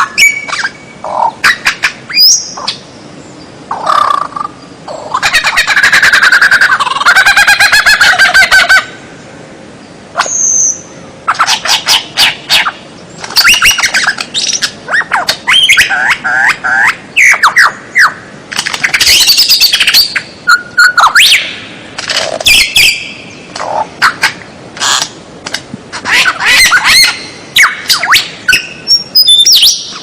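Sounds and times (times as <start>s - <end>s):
songbird singing loudly: 0.0s - 8.9s, 9.8s - 18.3s, 18.9s - 21.8s, 22.4s - 25.1s, 26.0s - 30.0s.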